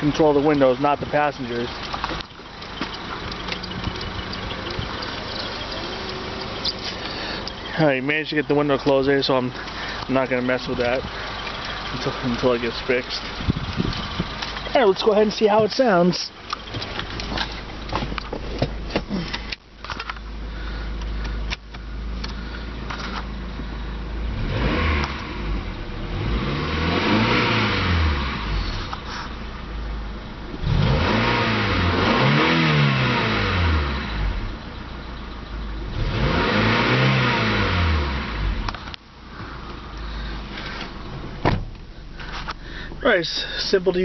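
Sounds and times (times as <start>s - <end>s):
car engine idling and revving: 0.0s - 44.0s.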